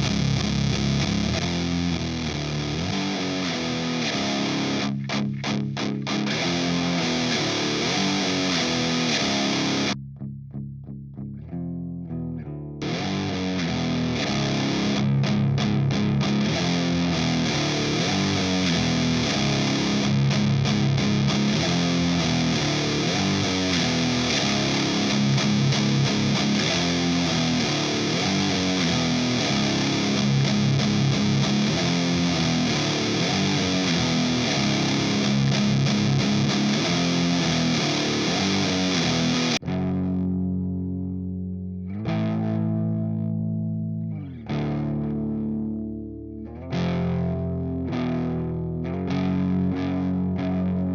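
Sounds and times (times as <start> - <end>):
clean electric guitar ringing: 0.0 - 10.0, 12.8 - 50.9
heavy fuzz electric guitar riff: 0.0 - 10.0, 12.8 - 50.9.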